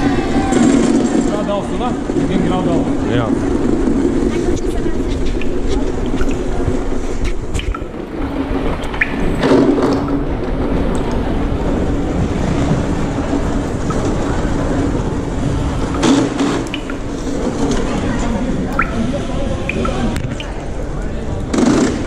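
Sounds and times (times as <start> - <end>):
trolley wheels rolling on hard floor: 0.0 - 18.1.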